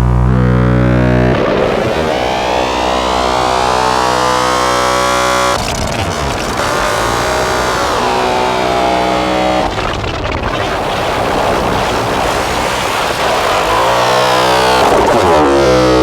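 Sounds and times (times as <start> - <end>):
distorted synthesizer drone: 0.0 - 16.0.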